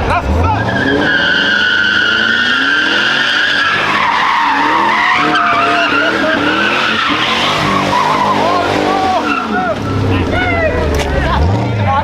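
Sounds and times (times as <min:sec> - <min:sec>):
car engine revving: 0:00.0 - 0:12.0
car tyres screeching: 0:00.0 - 0:12.0.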